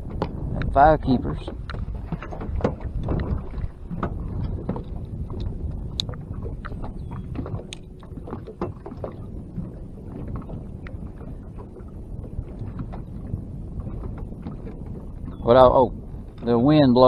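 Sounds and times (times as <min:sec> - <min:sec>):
water splashing against boat: 0:00.0 - 0:17.0
wind rumble on microphone: 0:00.0 - 0:17.0.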